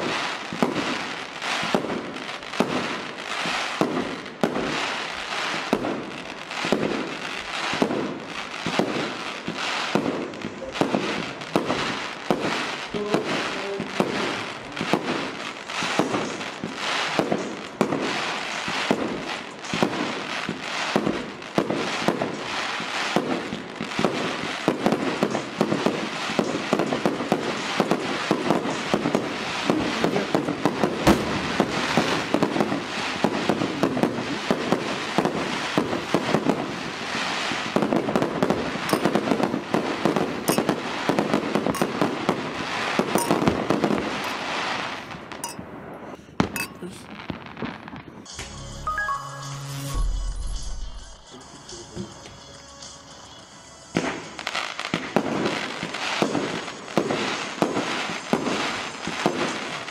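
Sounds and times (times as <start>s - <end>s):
fireworks crackling and banging: 0.0s - 49.2s, 49.9s - 59.9s.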